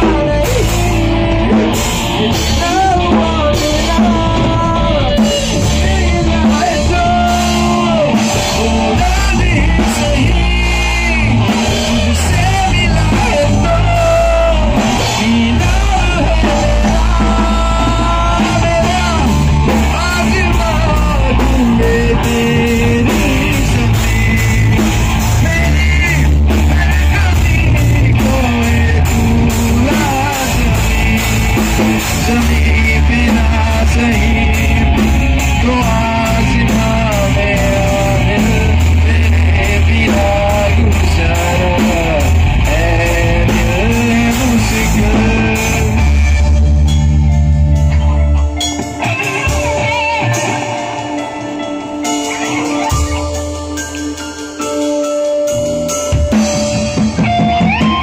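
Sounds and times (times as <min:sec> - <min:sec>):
bass guitar: 0:00.0 - 0:58.0
drum kit: 0:00.0 - 0:58.0
electric guitars: 0:00.0 - 0:58.0
keyboard: 0:00.0 - 0:58.0.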